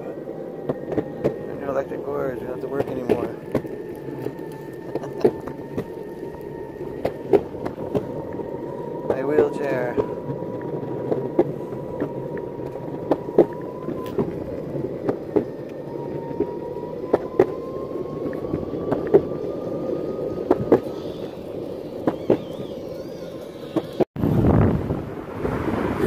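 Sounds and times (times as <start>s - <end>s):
thin motor whine: 0.0s - 24.0s
wheels clicking over seams: 0.0s - 24.1s
skateboard wheels rumbling on pavement: 0.0s - 26.0s.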